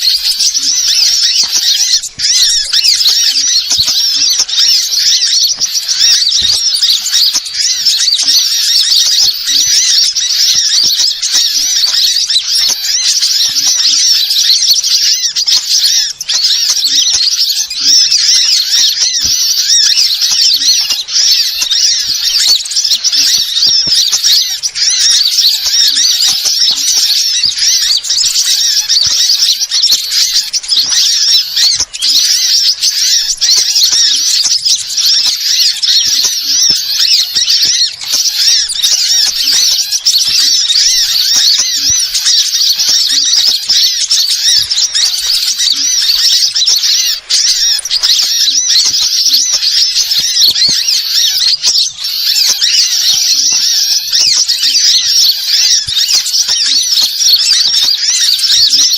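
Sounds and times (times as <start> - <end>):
small birds chirping and twittering: 0.0 - 58.9.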